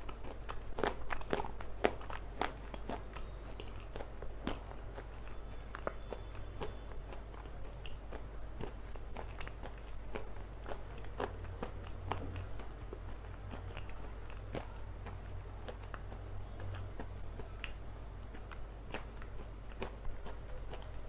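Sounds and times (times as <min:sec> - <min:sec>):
crunchy chewing: 0:00.0 - 0:21.0
low steady hum: 0:00.0 - 0:21.0.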